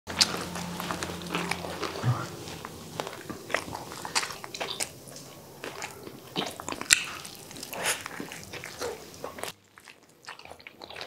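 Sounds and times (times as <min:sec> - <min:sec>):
people chewing food: 0:00.1 - 0:11.0.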